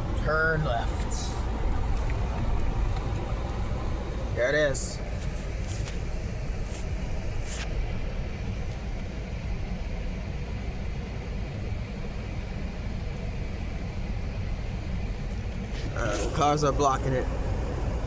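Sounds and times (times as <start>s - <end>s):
low vehicle rumble: 0.0s - 18.0s.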